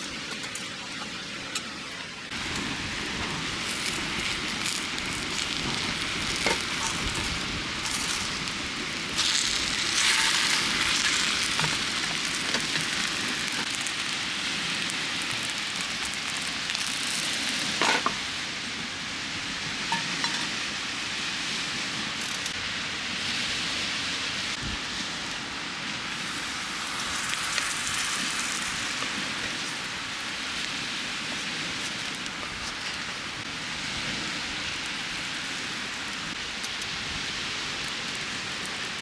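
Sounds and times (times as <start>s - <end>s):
food sizzling in a pan: 0.0s - 18.6s, 26.0s - 39.0s.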